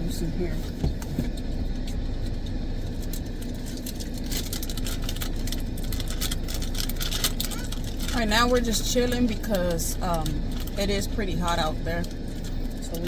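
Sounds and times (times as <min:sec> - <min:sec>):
car idling hum: 0:00.0 - 0:13.0.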